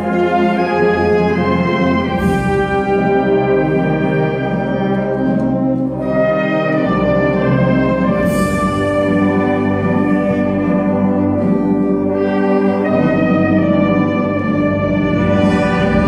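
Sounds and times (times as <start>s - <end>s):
wind band playing funeral march: 0.0s - 16.0s.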